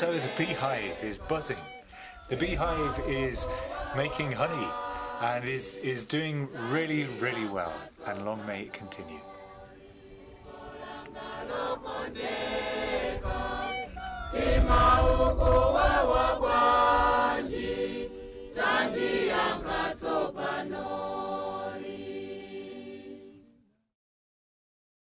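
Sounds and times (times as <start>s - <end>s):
choir singing long notes: 0.0s - 23.8s.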